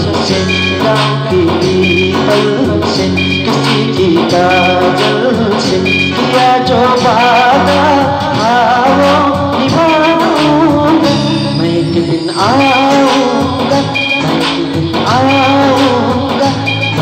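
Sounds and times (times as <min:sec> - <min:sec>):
bass guitar: 0:00.0 - 0:17.0
electric guitar: 0:00.0 - 0:17.0
keyboard: 0:00.0 - 0:17.0
man singing into microphone: 0:00.0 - 0:17.0.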